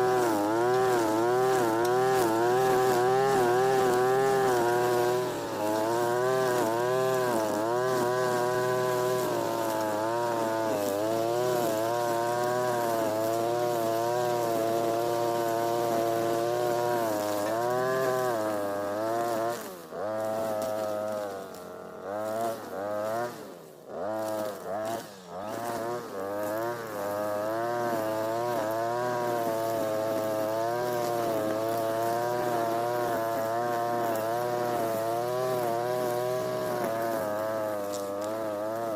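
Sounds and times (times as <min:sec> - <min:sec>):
brush cutter running at high revs: 0:00.0 - 0:38.9.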